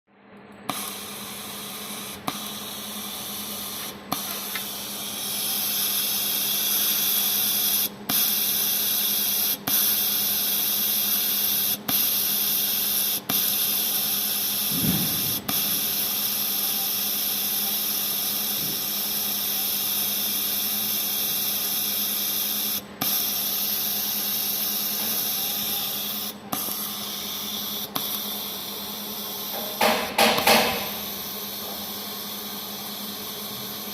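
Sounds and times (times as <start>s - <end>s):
welding arc hissing: 0.7s - 33.9s.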